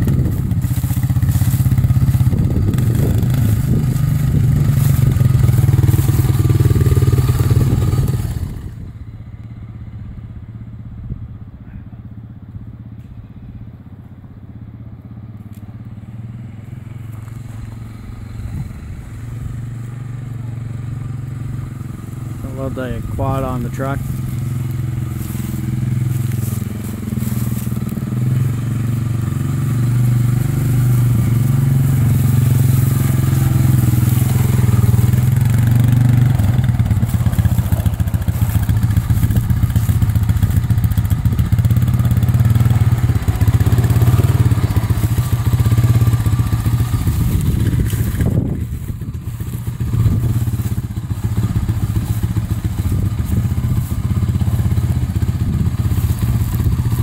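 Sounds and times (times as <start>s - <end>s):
tyres on gravel: 0.0s - 8.9s, 15.2s - 57.0s
quad engine running: 0.0s - 57.0s.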